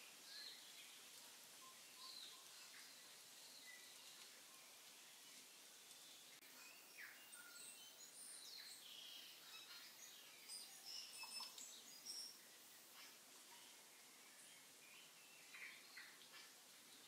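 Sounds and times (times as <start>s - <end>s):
birds chirping: 0.0s - 17.0s
quiet hiss: 0.0s - 17.0s.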